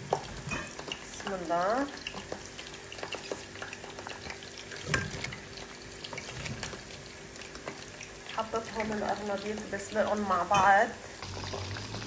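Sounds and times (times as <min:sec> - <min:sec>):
boiling water bubbling: 0:00.0 - 0:12.0.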